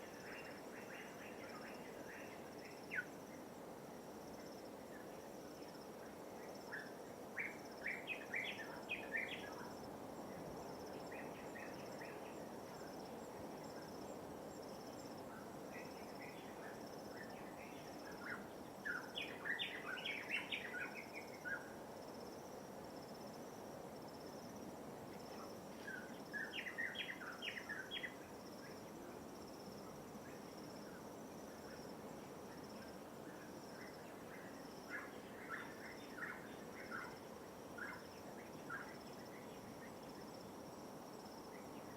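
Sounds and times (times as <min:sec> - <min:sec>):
songbird chirping: 0:00.0 - 0:03.5, 0:04.4 - 0:21.8, 0:25.1 - 0:29.2, 0:30.2 - 0:40.6.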